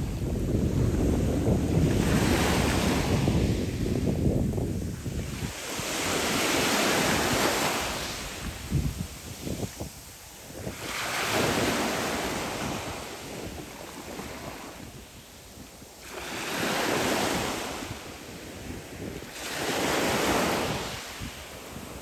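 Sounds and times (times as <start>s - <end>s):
waves washing up pebble beach: 0.0s - 22.0s.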